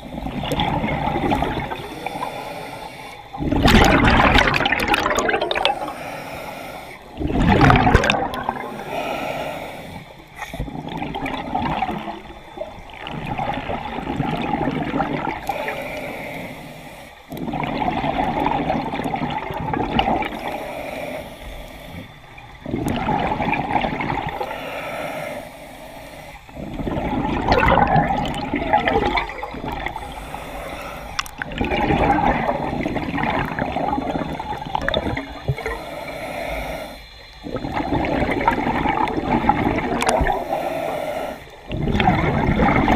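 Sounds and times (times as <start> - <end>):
regulator bubbles gurgling underwater: 0.0 - 42.9.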